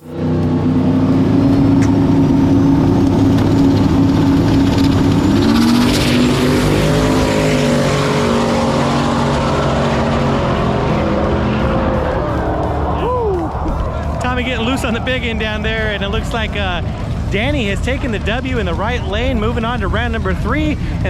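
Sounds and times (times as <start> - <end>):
race car engines at full throttle: 0.0 - 21.0.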